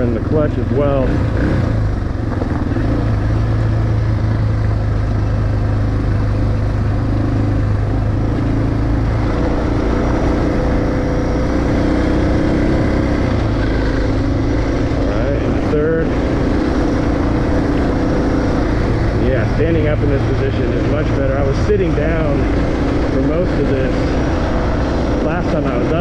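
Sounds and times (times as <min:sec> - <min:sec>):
motorcycle engine running: 0:00.0 - 0:26.0
tyres on gravel road: 0:00.0 - 0:26.0.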